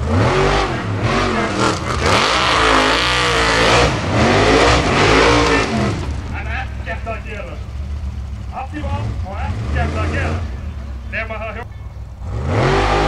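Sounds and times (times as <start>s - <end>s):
buggy engine revving hard: 0.0s - 13.0s.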